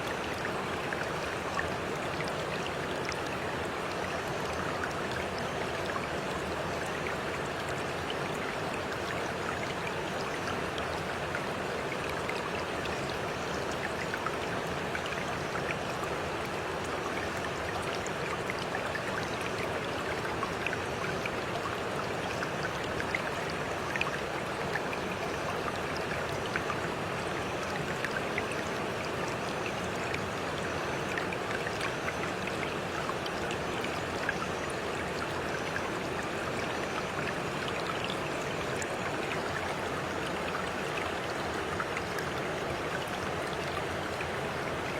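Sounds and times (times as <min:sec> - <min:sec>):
small splashes and trickles: 0:00.0 - 0:44.9
stream water flowing: 0:00.0 - 0:44.9.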